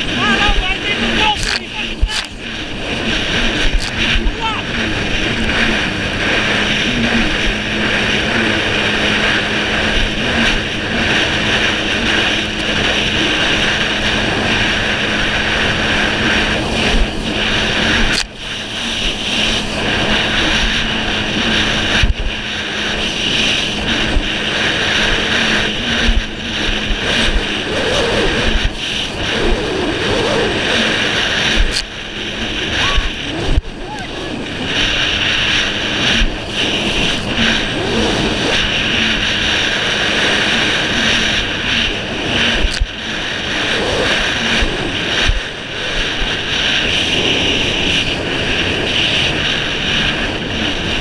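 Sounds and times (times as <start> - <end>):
jet ski engine drone: 0.0 - 51.0
rushing water and spray: 0.0 - 51.0.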